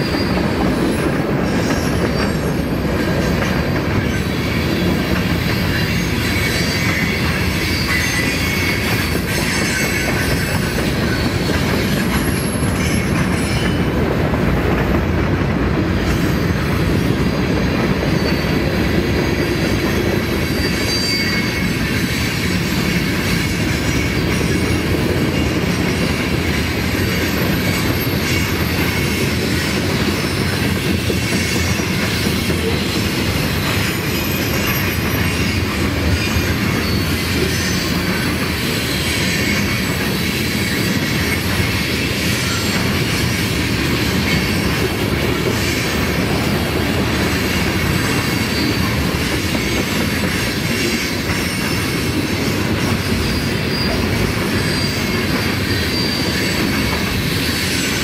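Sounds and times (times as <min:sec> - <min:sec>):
high wheel squeals: 0:00.0 - 0:14.0, 0:16.0 - 0:58.0
freight train wheels rumbling: 0:00.0 - 0:58.0.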